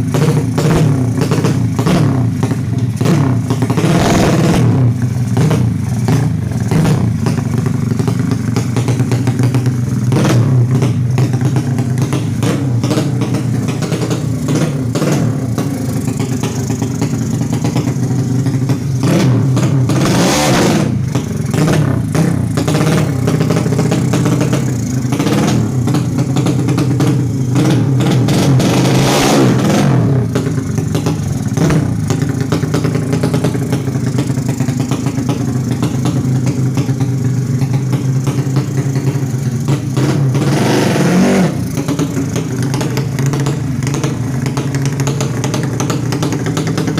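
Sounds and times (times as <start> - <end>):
motorcycle engine fast idle: 0.0 - 46.9
motorcycle engine revving: 0.0 - 46.9.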